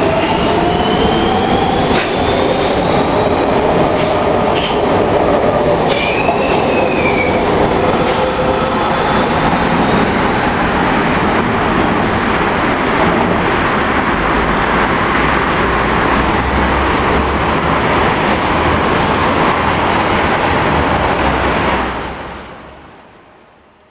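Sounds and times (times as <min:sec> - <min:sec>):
highway traffic: 0:00.0 - 0:23.5
rail train rushing: 0:00.0 - 0:23.9.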